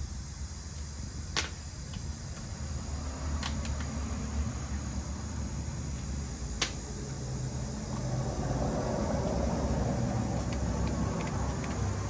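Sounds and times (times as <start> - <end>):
mechanical fan hum: 0.0 - 12.0.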